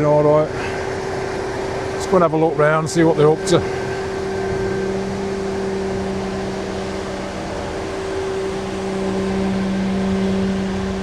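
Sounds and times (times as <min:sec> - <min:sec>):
large engine droning: 0:00.0 - 0:11.0.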